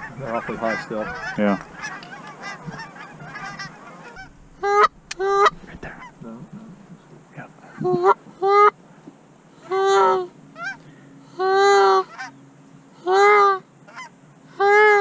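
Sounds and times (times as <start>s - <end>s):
goose call honking: 0.0s - 6.3s, 7.7s - 8.8s, 9.5s - 15.0s.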